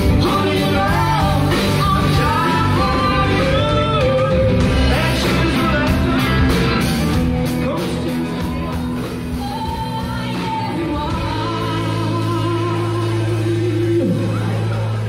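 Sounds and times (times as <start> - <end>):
steady drum beat: 0.0 - 14.7
bass guitar: 0.0 - 15.0
electric guitars: 0.0 - 15.0.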